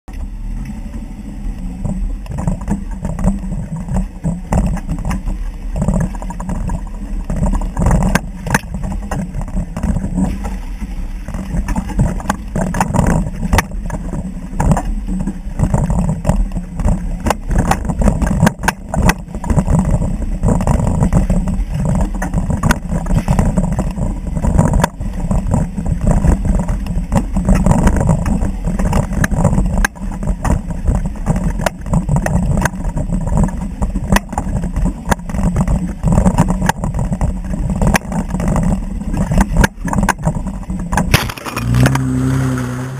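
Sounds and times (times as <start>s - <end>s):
engine and drivetrain rumble: 0.0s - 42.9s
sharp knocks and clicks: 1.6s - 42.1s.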